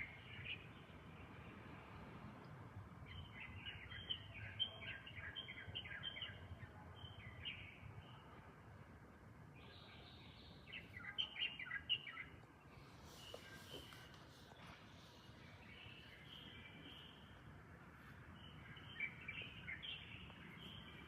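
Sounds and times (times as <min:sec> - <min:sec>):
bird chirping: 0:00.0 - 0:01.8, 0:03.1 - 0:08.4, 0:09.5 - 0:21.0.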